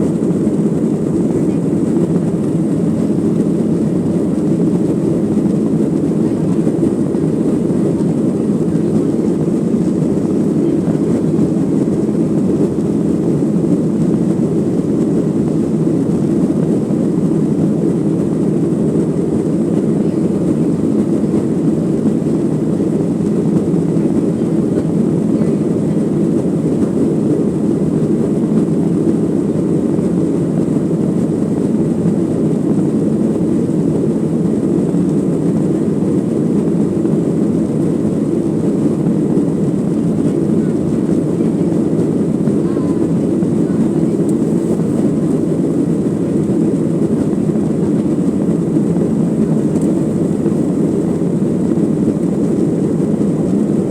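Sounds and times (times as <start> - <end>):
jet engine cabin rumble: 0.0 - 53.9.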